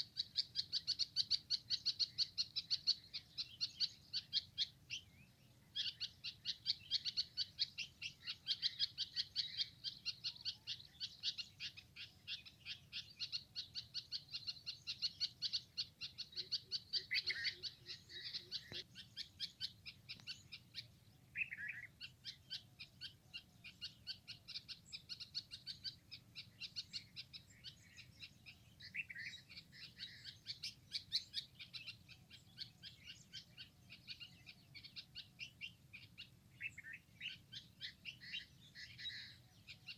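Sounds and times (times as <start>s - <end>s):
lower longer bird calls: 0.0s - 39.9s
small birds chirping: 0.0s - 39.9s.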